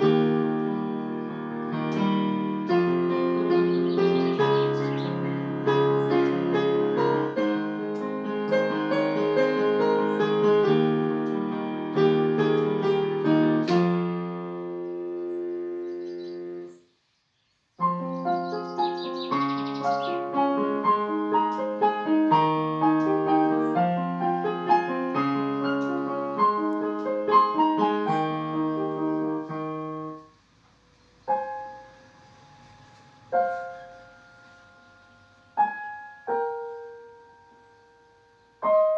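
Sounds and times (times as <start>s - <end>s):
solo piano playing: 0.0s - 16.8s, 17.8s - 38.9s.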